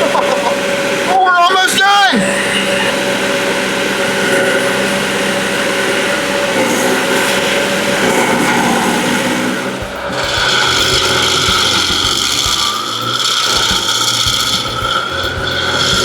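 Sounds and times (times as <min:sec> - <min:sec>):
stump grinder grinding wood: 0:00.0 - 0:16.0.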